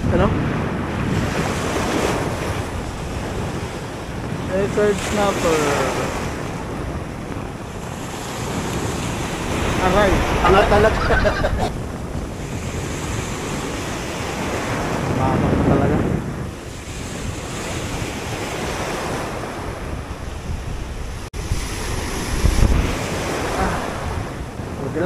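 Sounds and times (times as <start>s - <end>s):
surf washing over rocks: 0.0s - 25.0s
wind buffeting the microphone: 0.0s - 25.0s.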